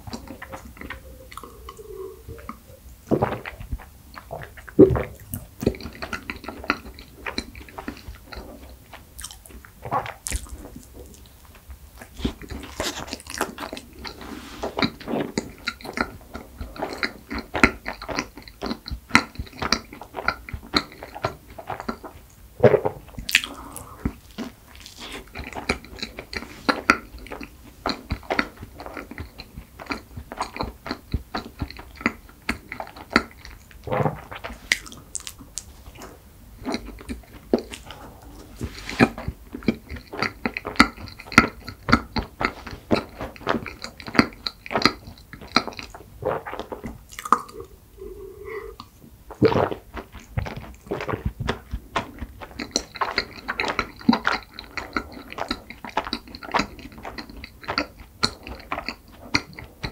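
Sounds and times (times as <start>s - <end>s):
chewing pastry: 0.0s - 59.9s.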